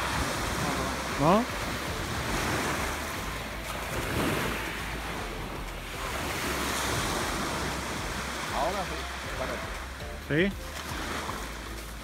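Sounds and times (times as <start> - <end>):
sea surf washing onto beach: 0.0 - 12.0
wind rumbling on microphone: 0.0 - 12.0.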